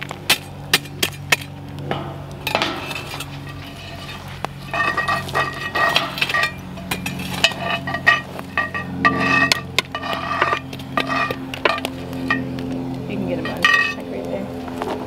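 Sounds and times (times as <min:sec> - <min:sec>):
coals clinking on iron lid: 0:00.0 - 0:14.4
metal shovel scraping coals: 0:00.0 - 0:15.0.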